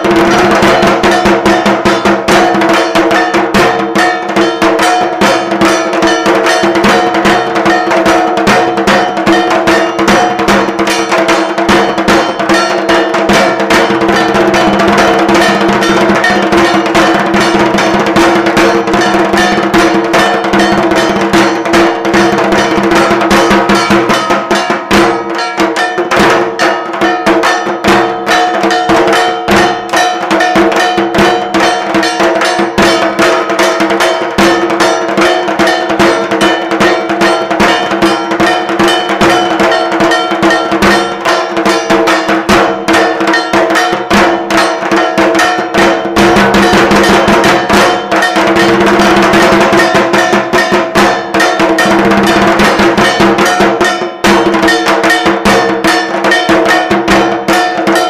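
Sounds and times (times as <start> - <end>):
drums: 0.0 - 58.0
metallic clanging beat: 0.0 - 58.0.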